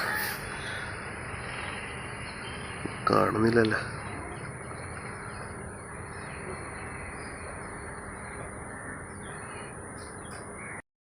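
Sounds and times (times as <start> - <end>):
high-pitched whine: 0.0 - 10.8
steady background noise: 0.0 - 10.8.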